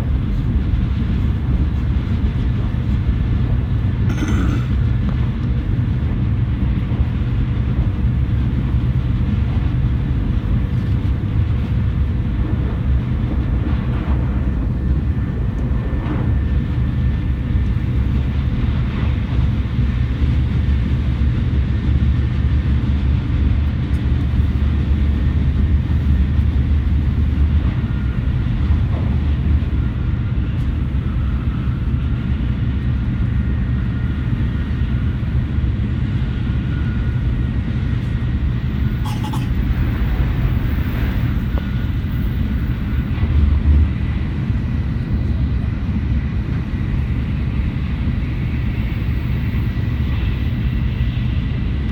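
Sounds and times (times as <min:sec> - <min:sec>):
faint train whine: 0:00.0 - 0:51.9
train low rumble: 0:00.0 - 0:51.9.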